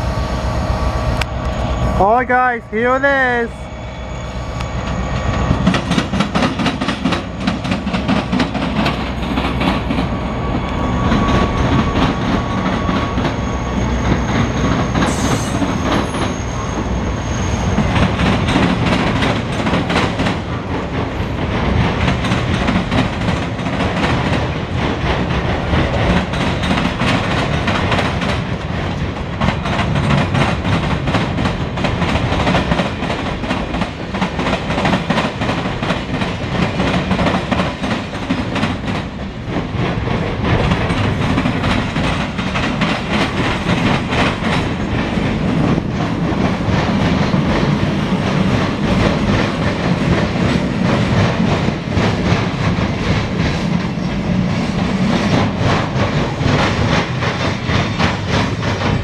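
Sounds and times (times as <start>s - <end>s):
diesel locomotive engine rumble: 0.0s - 59.0s
train wheels clacking over rail joints: 5.3s - 59.0s.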